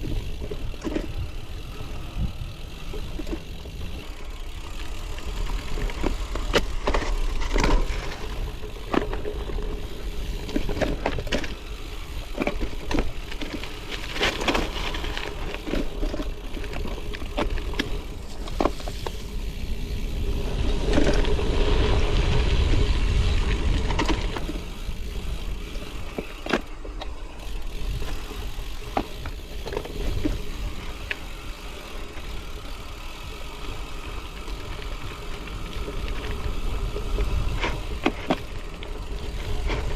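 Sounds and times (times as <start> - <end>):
bike rattling over bumps: 0.0 - 39.9
bike tyres rolling on gravel: 0.0 - 39.9.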